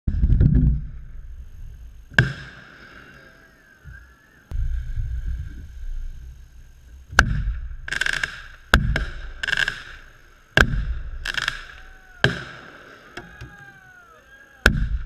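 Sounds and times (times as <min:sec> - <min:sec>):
low rumbling: 0:00.1 - 0:13.4
fireworks bursting: 0:00.1 - 0:15.0.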